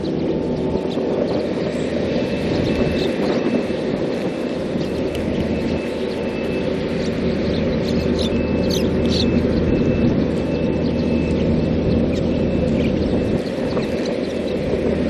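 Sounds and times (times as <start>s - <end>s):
birds chirping: 0.0s - 15.0s
low wind rumble: 0.0s - 15.0s.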